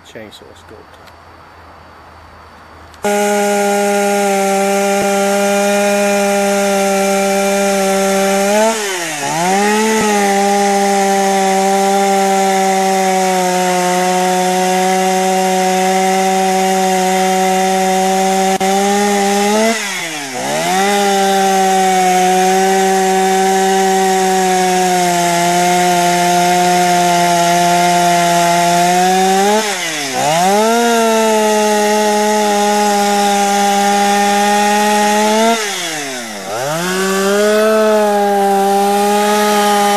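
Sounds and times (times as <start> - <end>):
chainsaw cutting wood: 3.0 - 39.9.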